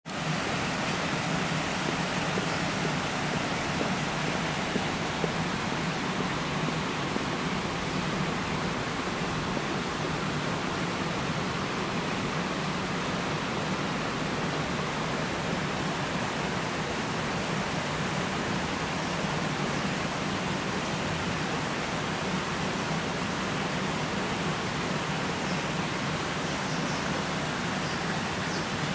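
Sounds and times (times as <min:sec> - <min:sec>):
water rushing along a canal: 0:00.0 - 0:28.9.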